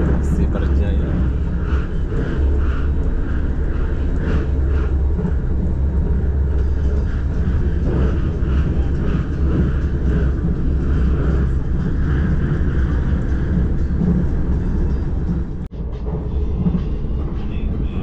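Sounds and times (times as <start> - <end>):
train rumbling at speed: 0.0 - 18.0.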